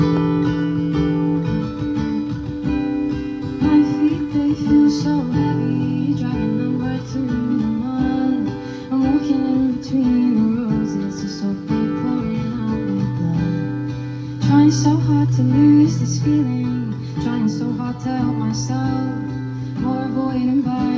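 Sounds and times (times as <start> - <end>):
acoustic guitar chords: 0.0 - 20.9.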